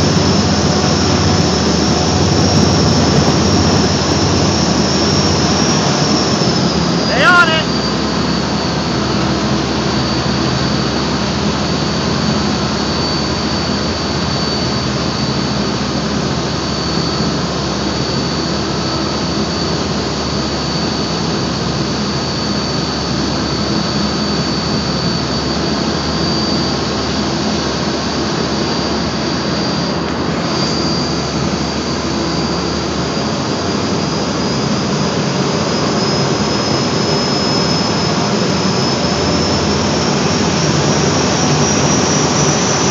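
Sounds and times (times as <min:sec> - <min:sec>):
boat engine under heavy load: 0:00.0 - 0:42.9
constant high whine: 0:00.0 - 0:42.9.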